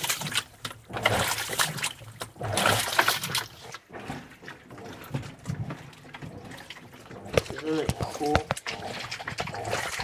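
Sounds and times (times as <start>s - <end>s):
water sloshing in portable washer: 0.0s - 10.0s.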